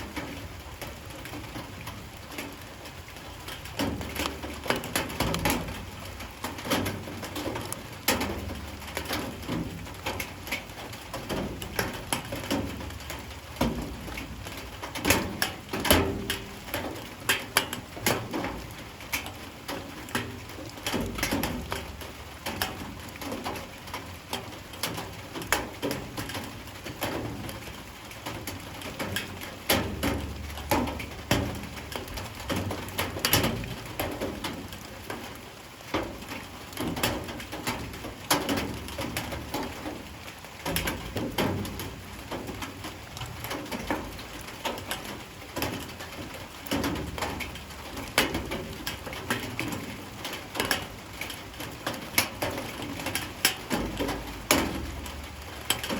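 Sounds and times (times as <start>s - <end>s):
drops ticking on hard surfaces: 3.1s - 55.9s.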